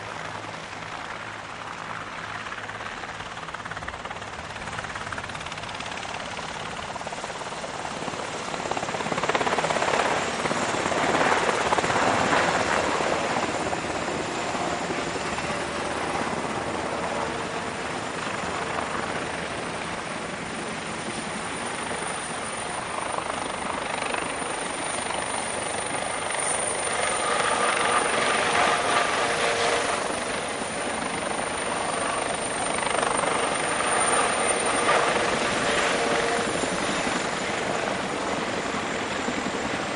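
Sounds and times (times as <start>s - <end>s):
helicopters flying overhead: 0.0s - 39.9s
steady turbine whine: 0.0s - 39.9s.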